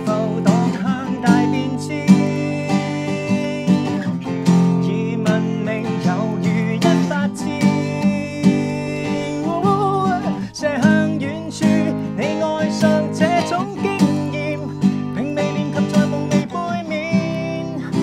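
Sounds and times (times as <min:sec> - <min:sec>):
acoustic guitar strumming: 0:00.0 - 0:18.0
person singing pop song: 0:00.0 - 0:18.0.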